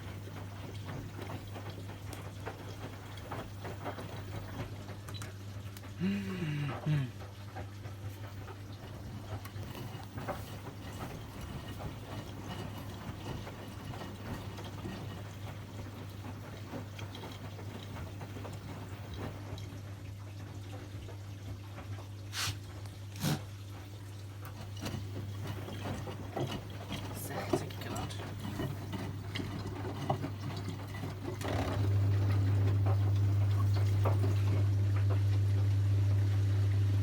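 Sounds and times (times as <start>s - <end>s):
washing machine hum: 0.0s - 37.0s
water splashing in drum: 7.3s - 37.0s.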